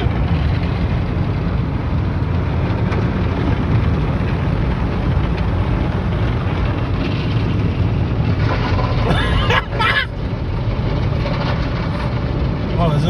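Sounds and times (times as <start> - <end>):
car wash rumble: 0.0 - 13.0.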